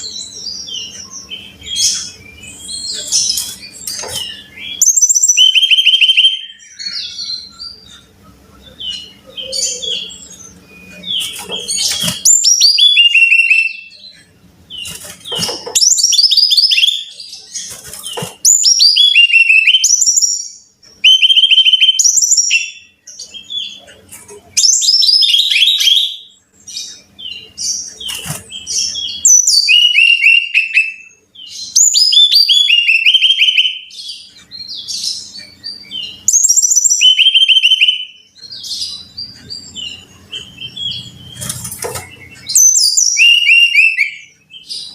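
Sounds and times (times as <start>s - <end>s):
bird singing whistled notes: 0.0s - 7.8s, 8.7s - 14.1s, 14.8s - 17.5s, 18.5s - 23.8s, 24.6s - 41.5s, 42.2s - 44.9s.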